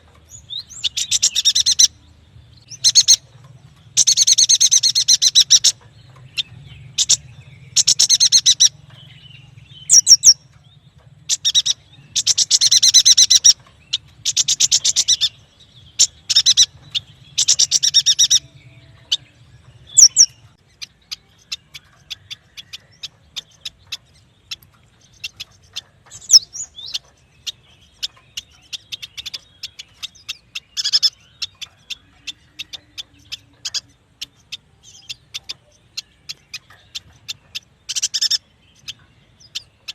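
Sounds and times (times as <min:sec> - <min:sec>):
buzzy bird chattering: 0:00.8 - 0:02.0, 0:02.7 - 0:10.4, 0:11.2 - 0:18.5, 0:19.8 - 0:39.9.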